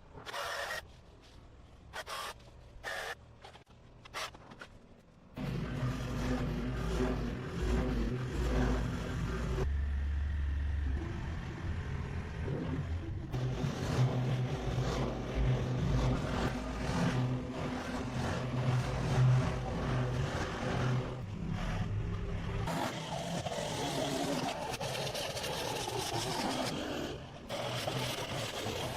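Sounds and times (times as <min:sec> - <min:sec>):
engine running: 0:05.4 - 0:28.9.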